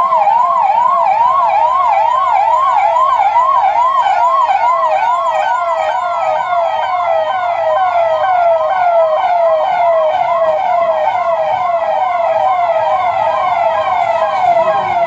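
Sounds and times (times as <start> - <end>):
police siren yelping: 0.0 - 15.0.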